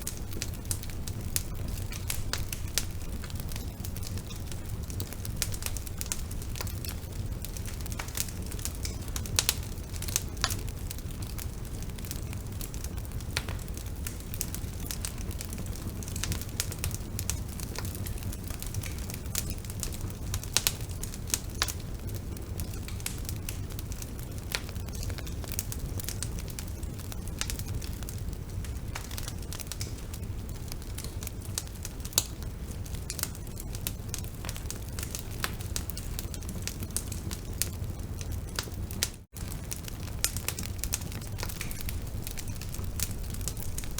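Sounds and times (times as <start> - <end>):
bonfire crackling: 0.0 - 43.9.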